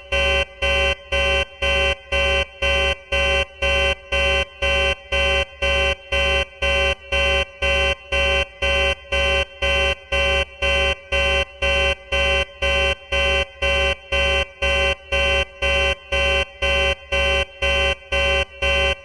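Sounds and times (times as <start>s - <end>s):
pulsing buzzy alarm tone: 0.0s - 19.0s.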